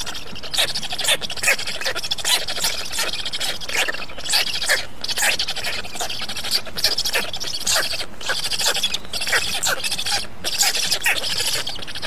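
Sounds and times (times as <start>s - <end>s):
stork chicks begging calls: 0.0s - 12.0s.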